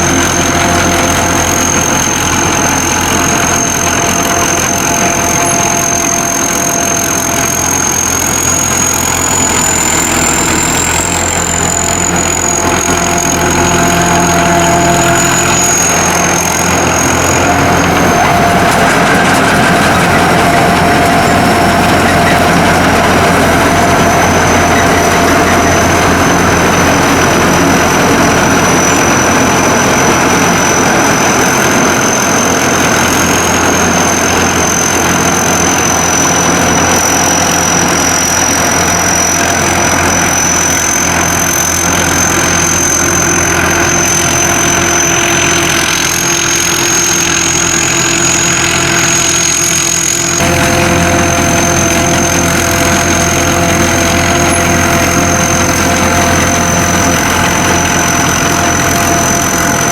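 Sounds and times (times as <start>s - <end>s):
combine harvester engine running: 0.0s - 59.9s
thin high whine: 0.0s - 59.9s.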